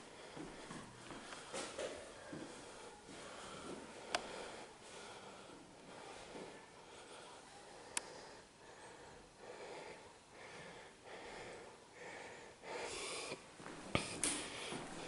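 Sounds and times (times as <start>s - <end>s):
breathing close to microphone: 0.0s - 15.0s.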